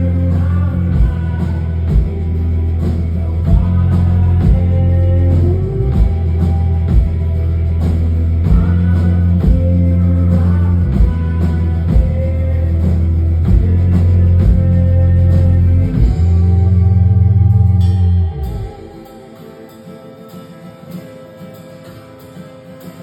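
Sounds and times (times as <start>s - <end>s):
heavy sustained bass: 0.0s - 19.0s
guitar lines: 0.0s - 23.0s.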